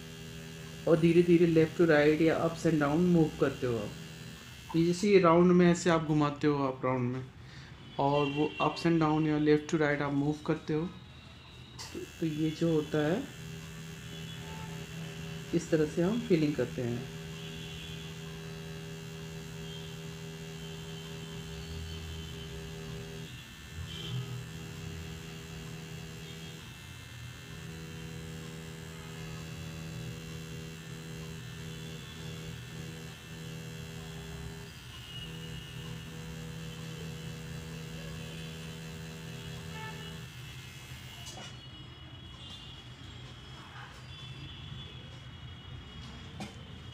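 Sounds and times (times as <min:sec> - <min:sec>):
tattoo machine buzzing: 0:00.0 - 0:06.2, 0:10.8 - 0:42.7.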